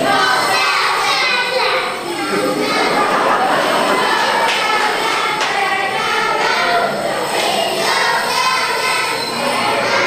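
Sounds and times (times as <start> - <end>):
children singing in unison: 0.0 - 10.0.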